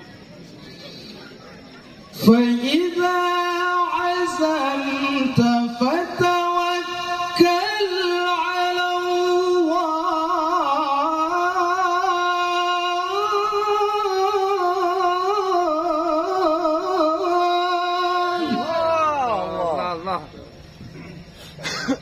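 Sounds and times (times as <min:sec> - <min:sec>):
man reciting melodically: 0:02.1 - 0:20.7.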